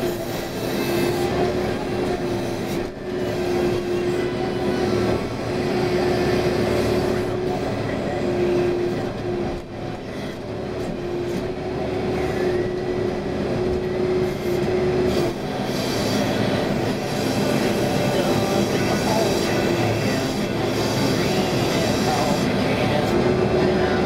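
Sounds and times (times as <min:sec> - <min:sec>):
diesel engine running under load: 0:00.0 - 0:24.0
steady whine: 0:00.0 - 0:24.0.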